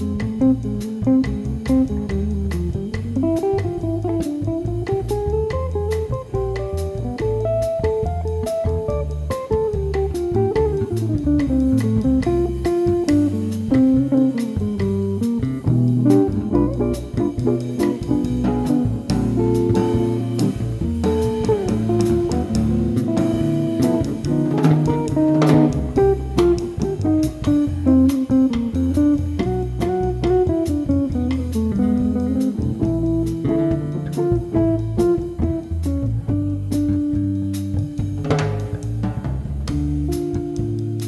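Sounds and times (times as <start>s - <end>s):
drum kit played lightly: 0.0s - 41.0s
electric bass: 0.0s - 41.0s
electric guitar melody: 0.0s - 41.0s.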